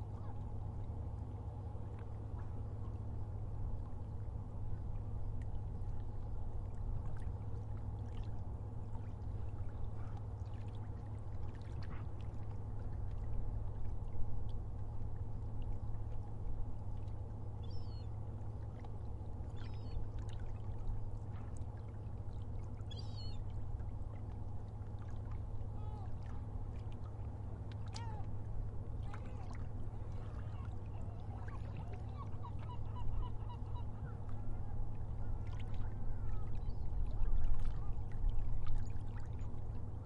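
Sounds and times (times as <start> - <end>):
sea water sloshing and splashing: 0.0 - 40.0
steady low hum: 0.0 - 40.0.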